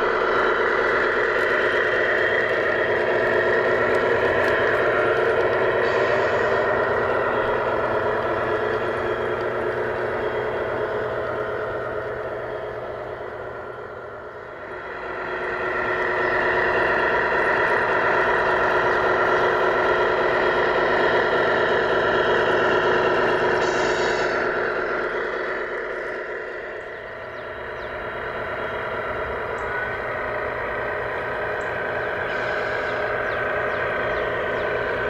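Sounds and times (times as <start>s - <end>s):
model truck droning: 0.0s - 35.0s.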